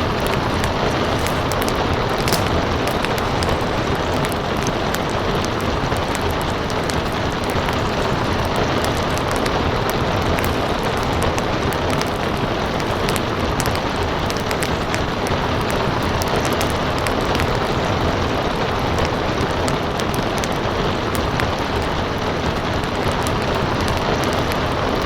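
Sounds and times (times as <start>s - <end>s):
rain hiss: 0.0s - 25.0s
wood fire crackling: 0.0s - 25.0s.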